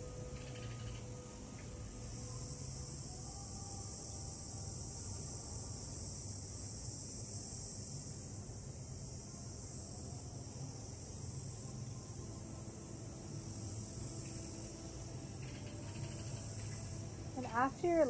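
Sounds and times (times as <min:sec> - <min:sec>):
insects chorus: 0:00.0 - 0:18.0
low steady hum: 0:00.0 - 0:18.0.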